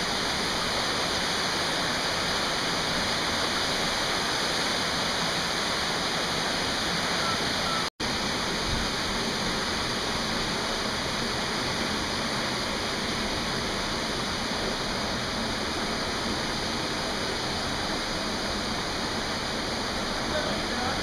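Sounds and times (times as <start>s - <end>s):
stream and waterfall rushing: 0.0s - 21.0s.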